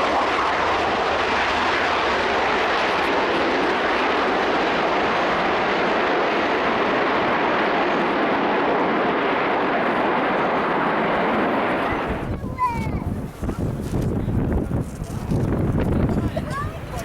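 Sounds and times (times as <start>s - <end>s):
aircraft engine roar: 0.0s - 17.0s.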